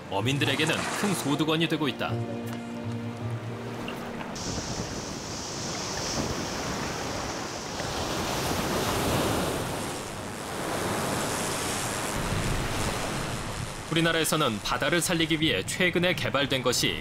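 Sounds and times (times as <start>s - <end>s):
sea waves washing in: 0.0s - 1.8s, 3.1s - 16.1s.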